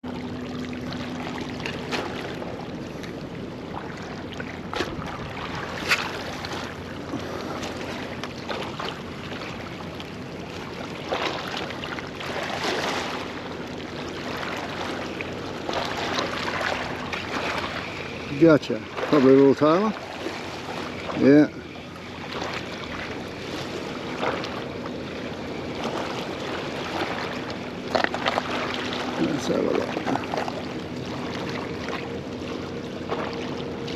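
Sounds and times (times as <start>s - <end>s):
water lapping against boat hull: 0.0s - 33.9s.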